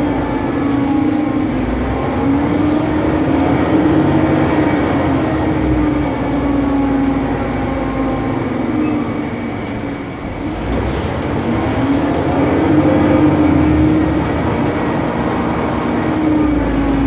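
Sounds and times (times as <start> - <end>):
bus engine and cooling fan running: 0.0 - 17.0.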